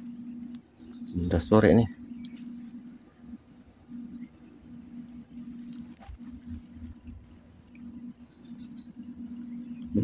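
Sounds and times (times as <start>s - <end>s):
insects droning: 0.0s - 10.0s
low hum: 0.0s - 10.0s.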